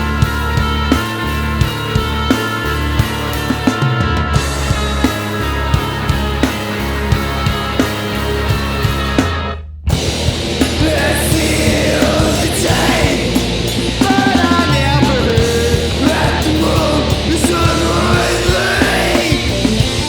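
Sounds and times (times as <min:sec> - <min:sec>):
yelled vocals: 0:00.0 - 0:09.4, 0:10.0 - 0:20.0
punk rock band playing: 0:00.0 - 0:20.0.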